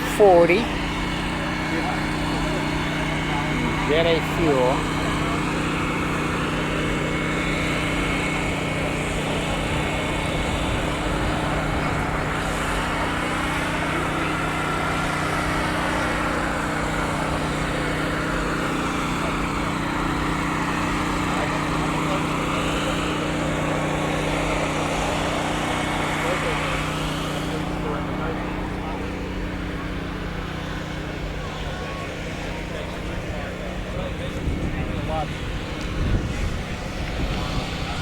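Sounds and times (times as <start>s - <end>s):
engine running with low hum: 0.0s - 38.0s.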